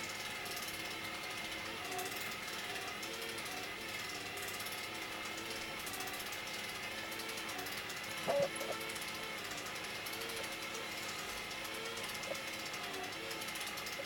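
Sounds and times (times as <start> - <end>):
mechanical whirr with rapid clicking: 0.0 - 14.0.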